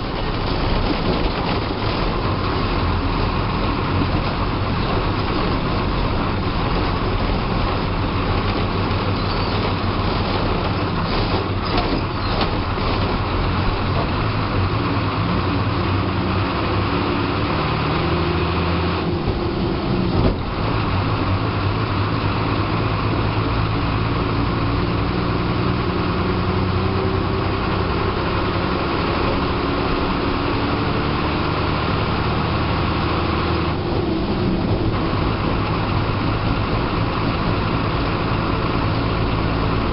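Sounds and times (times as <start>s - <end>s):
bus diesel engine running: 0.0s - 39.9s
road and body noise: 0.0s - 39.9s.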